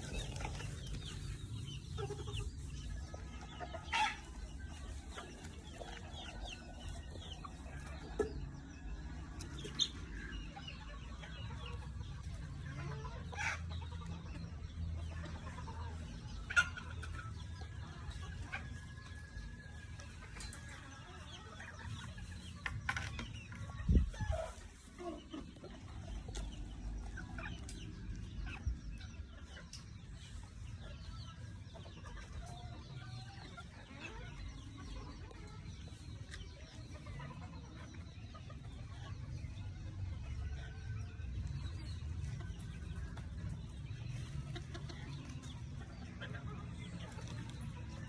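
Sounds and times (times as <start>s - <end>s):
chickens clucking: 0.0s - 48.0s.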